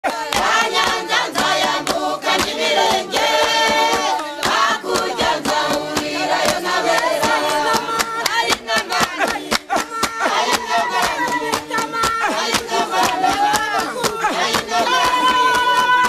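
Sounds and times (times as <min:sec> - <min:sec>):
crowd singing a dance song: 0:00.0 - 0:16.0
rhythmic handclapping: 0:00.0 - 0:16.0.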